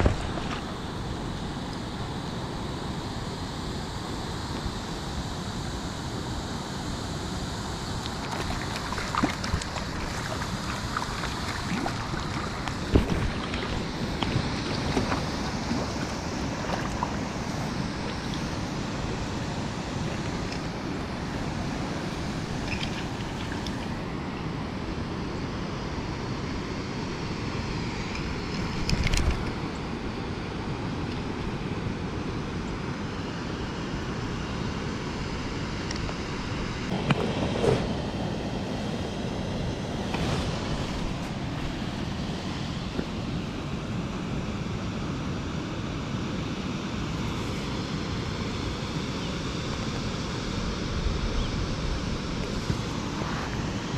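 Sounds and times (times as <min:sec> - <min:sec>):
river water rushing over weir: 0:00.0 - 0:53.9.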